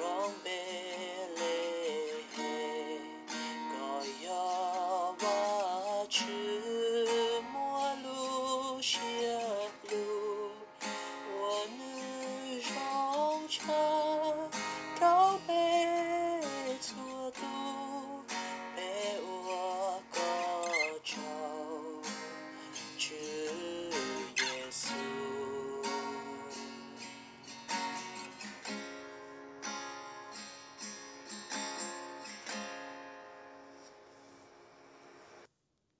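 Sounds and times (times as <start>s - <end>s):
acoustic guitar strumming chords: 0.0s - 35.4s.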